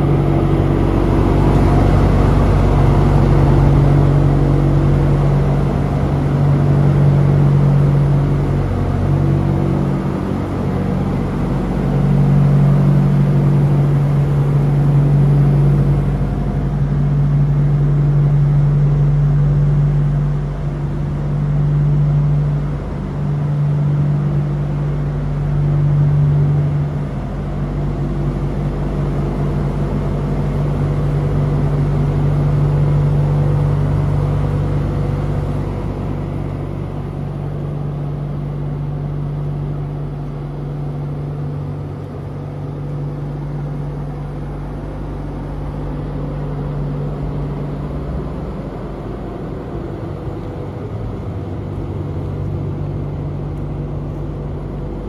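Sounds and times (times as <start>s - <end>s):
refrigeration unit humming: 0.0s - 55.0s.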